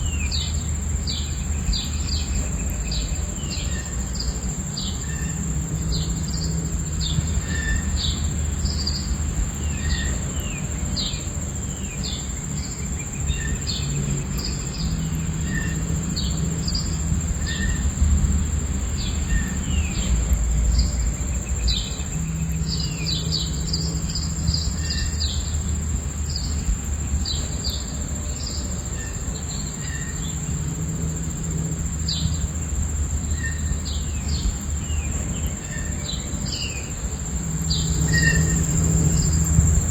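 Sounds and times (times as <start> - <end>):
cricket trill: 0.0 - 39.9.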